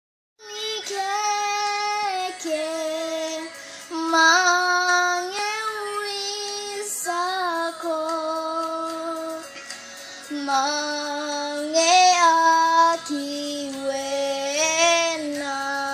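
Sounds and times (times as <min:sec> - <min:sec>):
girl singing: 0:00.4 - 0:09.6, 0:10.3 - 0:15.9.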